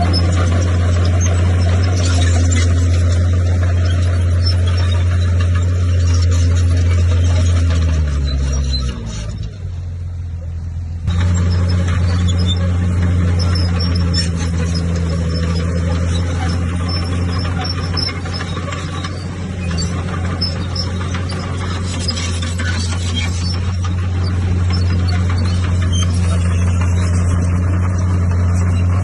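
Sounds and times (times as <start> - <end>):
bulldozer diesel engine droning: 0.0 - 29.0
rough mechanical noise: 0.0 - 29.0.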